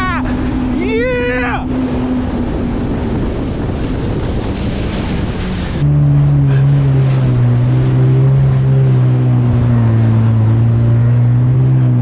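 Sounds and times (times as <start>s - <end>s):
jet ski engine humming: 0.0s - 12.0s
wind rushing over microphone: 0.0s - 12.0s.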